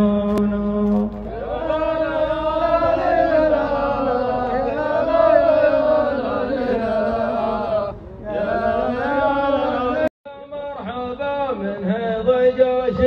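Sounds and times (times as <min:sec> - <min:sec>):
men chanting into a microphone: 0:00.0 - 0:13.0.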